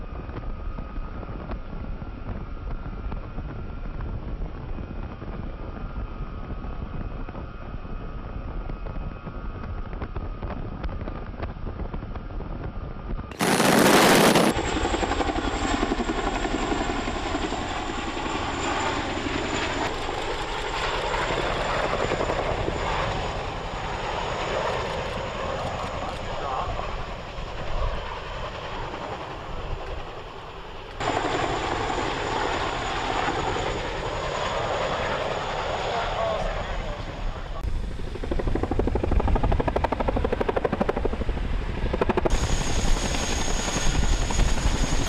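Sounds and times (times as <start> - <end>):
helicopter rotor and turbine: 0.0 - 45.0.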